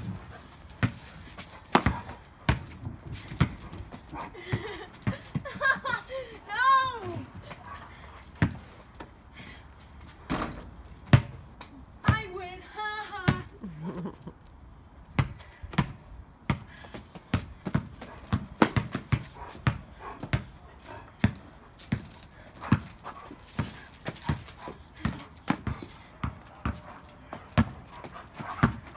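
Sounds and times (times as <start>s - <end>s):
basketball bouncing on asphalt: 0.0s - 5.9s, 8.2s - 9.2s, 10.0s - 12.4s, 13.2s - 13.5s, 15.0s - 28.9s.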